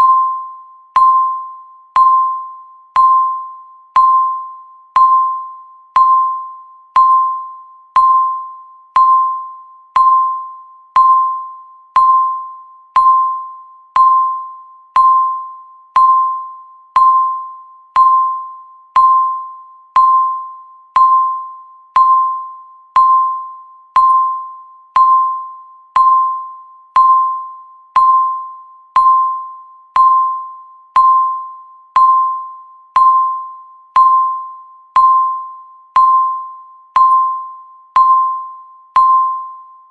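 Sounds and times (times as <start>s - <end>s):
electronic timer beep: 0.0s - 39.9s.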